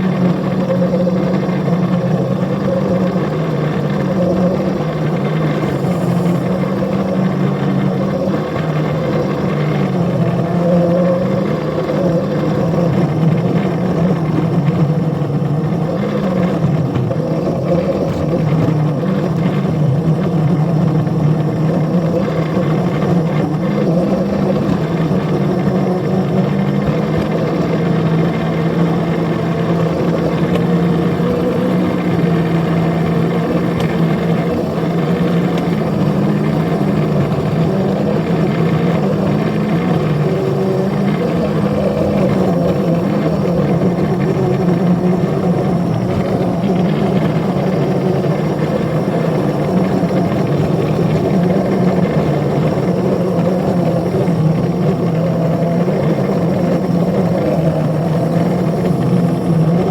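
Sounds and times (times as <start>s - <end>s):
small locomotive engine running: 0.0s - 59.9s.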